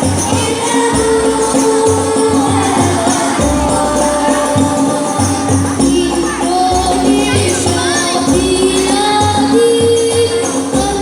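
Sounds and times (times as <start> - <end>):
frame drums beating: 0.0 - 11.0
person singing long notes: 0.0 - 11.0.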